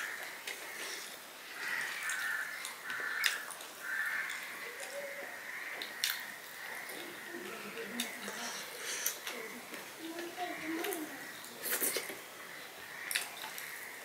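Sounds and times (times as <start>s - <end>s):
crows cawing: 0.0s - 9.2s, 10.2s - 11.4s, 12.4s - 14.0s.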